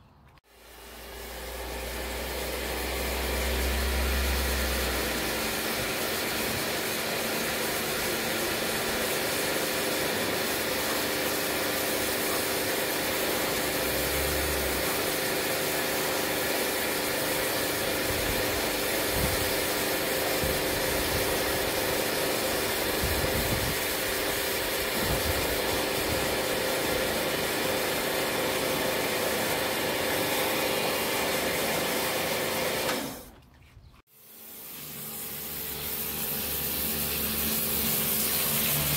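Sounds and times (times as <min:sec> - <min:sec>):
pressure washer water jet hissing: 0:00.5 - 0:33.4, 0:34.1 - 0:38.9.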